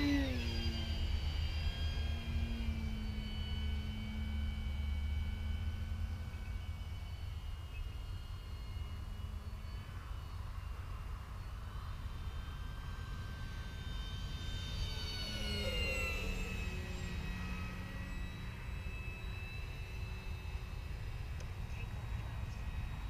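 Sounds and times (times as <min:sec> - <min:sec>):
model plane motor whining: 0:00.0 - 0:23.0.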